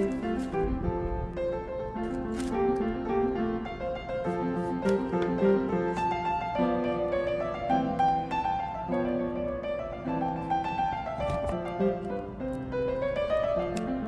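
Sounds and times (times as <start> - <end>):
piano background music: 0.0 - 14.0.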